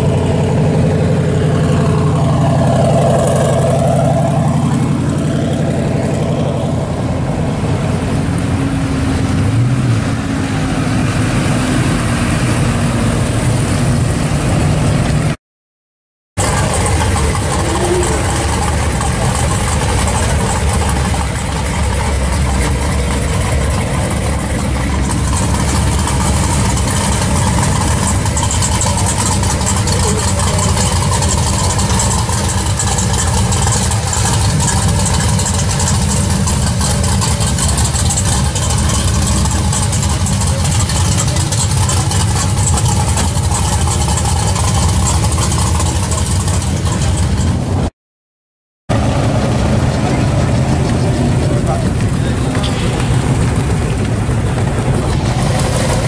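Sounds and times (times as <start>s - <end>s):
car engines driving slowly past: 0.0s - 15.4s, 16.4s - 47.9s, 48.9s - 56.0s.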